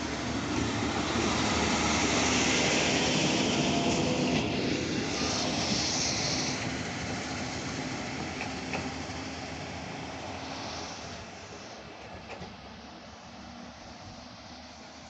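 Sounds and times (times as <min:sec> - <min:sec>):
diesel railcar pulling away: 0:00.0 - 0:15.0.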